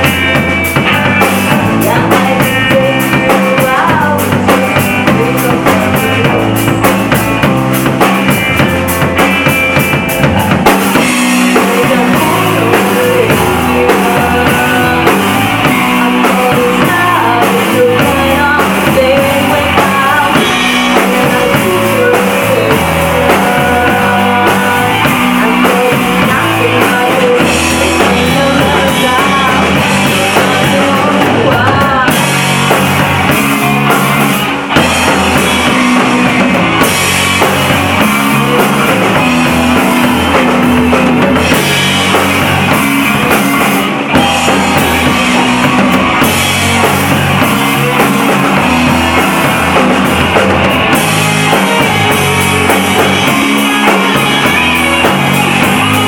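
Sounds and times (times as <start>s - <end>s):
drum kit: 0.0s - 56.0s
electric guitar: 0.0s - 56.0s
person singing: 0.0s - 56.0s
rock band playing: 0.0s - 56.0s.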